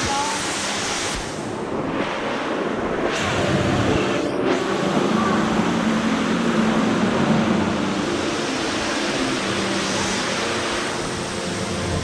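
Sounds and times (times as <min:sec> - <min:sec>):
waterfall rushing in a cave: 0:00.0 - 0:12.0.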